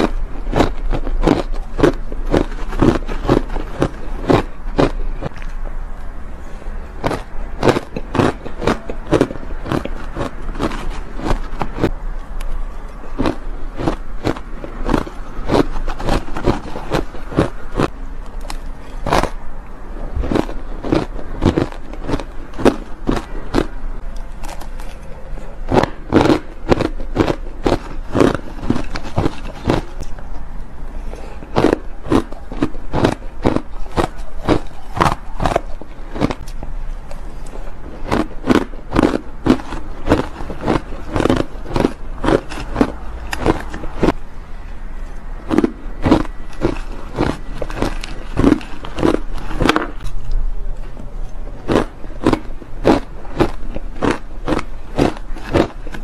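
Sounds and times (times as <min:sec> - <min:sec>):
ice being chewed: 0:00.0 - 0:05.7, 0:07.0 - 0:19.4, 0:20.1 - 0:30.4, 0:31.0 - 0:44.2, 0:45.4 - 0:50.4, 0:51.2 - 0:56.0.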